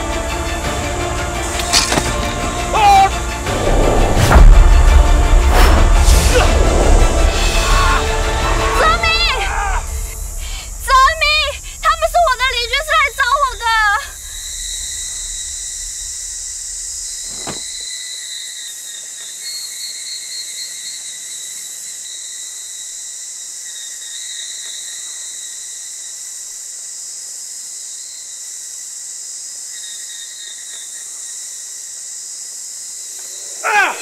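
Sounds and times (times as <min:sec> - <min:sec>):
insects buzzing: 0:00.0 - 0:34.0.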